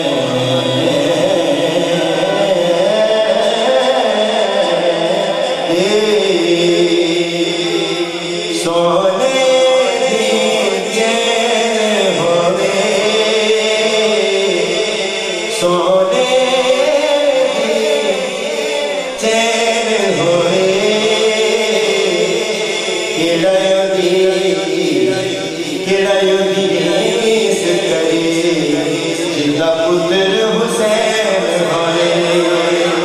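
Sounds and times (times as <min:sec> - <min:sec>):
man chanting devotional song: 0:00.0 - 0:33.0.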